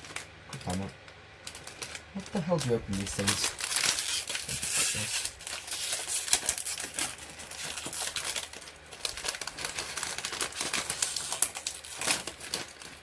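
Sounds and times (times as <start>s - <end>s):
plastic packet crinkling and tearing: 0.0s - 13.0s.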